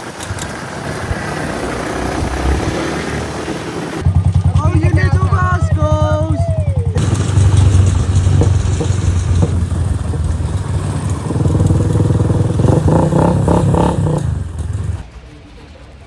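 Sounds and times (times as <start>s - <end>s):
motorbike engine running: 0.0s - 15.3s.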